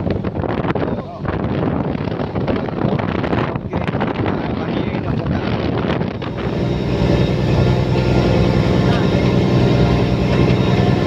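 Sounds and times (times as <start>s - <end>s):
boat engine droning: 0.0s - 11.0s
wind buffeting microphone: 0.0s - 11.0s.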